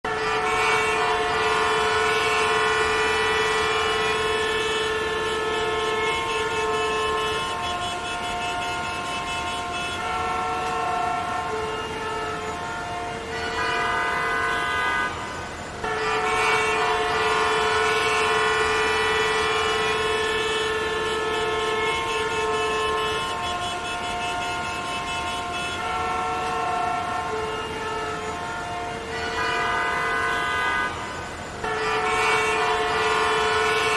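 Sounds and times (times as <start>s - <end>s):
car horns honking: 0.0s - 33.9s.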